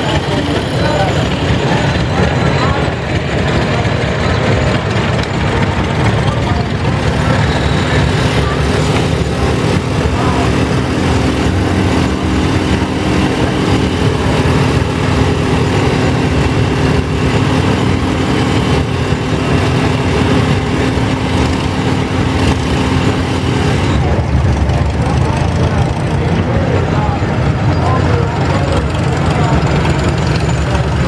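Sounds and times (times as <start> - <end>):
tractor engines running: 0.0 - 31.0.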